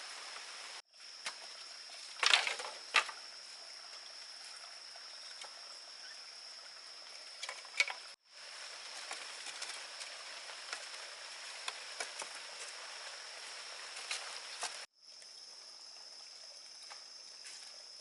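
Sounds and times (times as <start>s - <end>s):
constant hiss: 0.0s - 18.0s.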